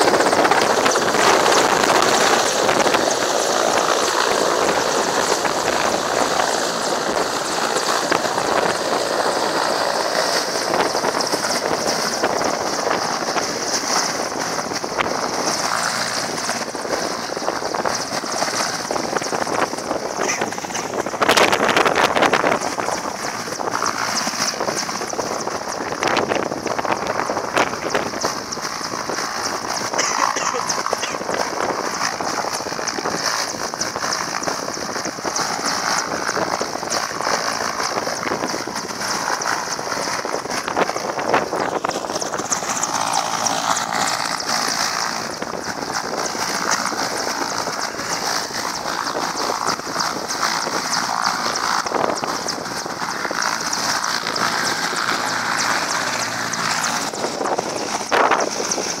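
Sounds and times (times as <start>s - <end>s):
helicopter engines rushing: 0.0s - 59.0s.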